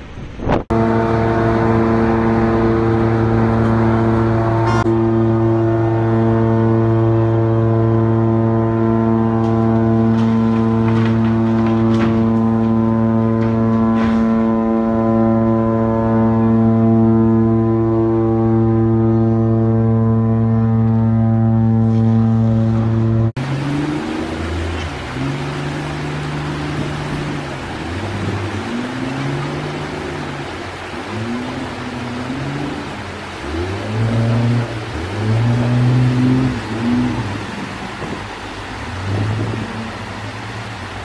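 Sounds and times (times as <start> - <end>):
ship horn blast: 0.4 - 41.0.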